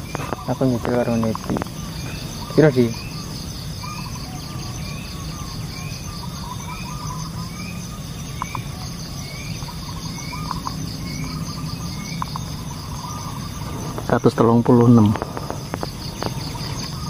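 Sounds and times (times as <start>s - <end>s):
bird calls: 0.0s - 17.0s
bird rising chirp: 0.0s - 17.0s
insects trilling: 0.0s - 17.0s.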